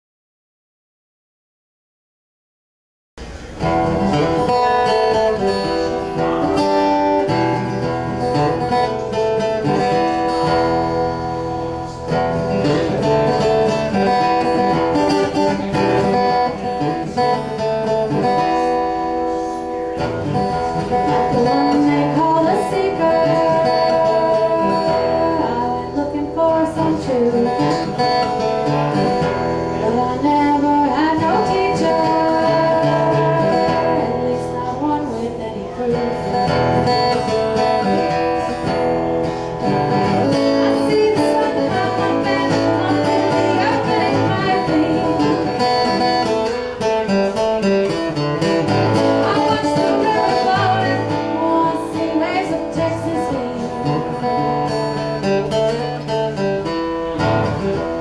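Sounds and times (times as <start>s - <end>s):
acoustic guitar playing: 3.2s - 58.0s.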